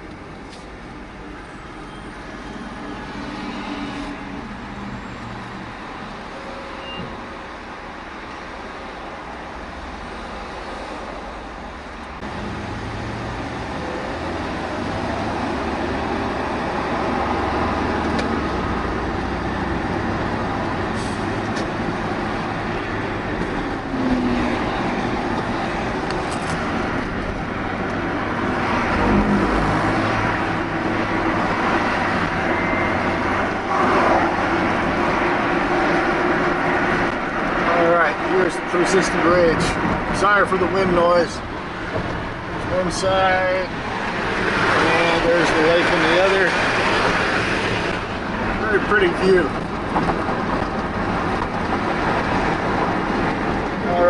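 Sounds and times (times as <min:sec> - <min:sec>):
car road noise inside cabin: 0:00.0 - 0:54.0.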